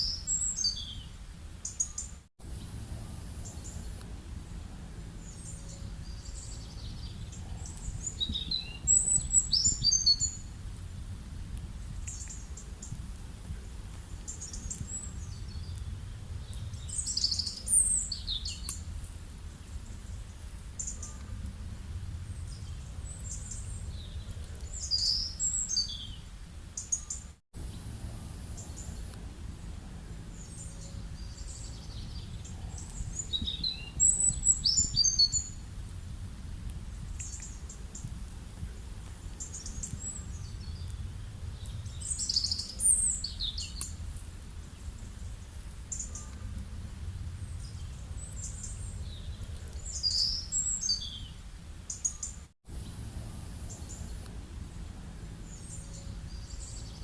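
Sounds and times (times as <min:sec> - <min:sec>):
small birds chirping: 0:00.0 - 0:36.0, 0:36.7 - 0:57.0
low outdoor background rumble: 0:02.4 - 0:26.9, 0:27.6 - 0:52.0, 0:52.7 - 0:57.0.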